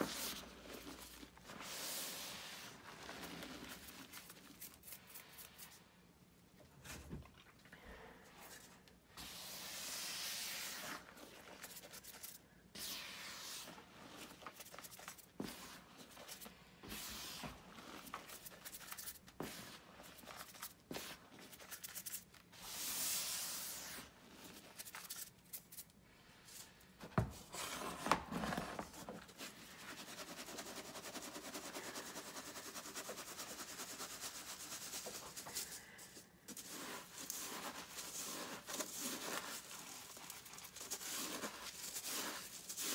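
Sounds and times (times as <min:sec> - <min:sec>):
chalk hissing through a sieve: 0:00.0 - 0:05.9, 0:09.1 - 0:25.3, 0:29.4 - 0:42.9.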